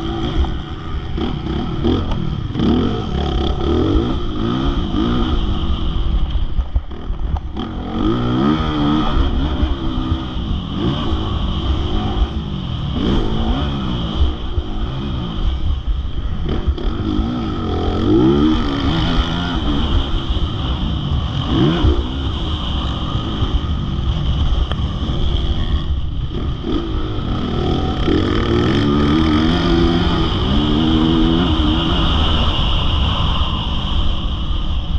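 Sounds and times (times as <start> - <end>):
motocross bike engine revving: 0.0 - 34.0.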